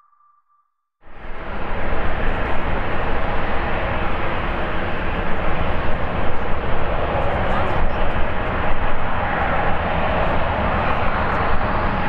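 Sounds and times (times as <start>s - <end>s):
jet engines at takeoff power: 1.1s - 12.0s.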